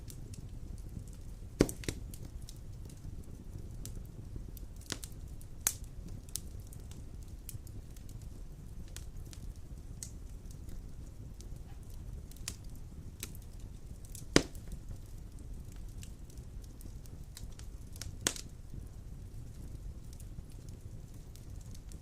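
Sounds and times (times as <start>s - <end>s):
fire flames rumbling: 0.0s - 22.0s
wood fire crackling and popping: 0.0s - 22.0s.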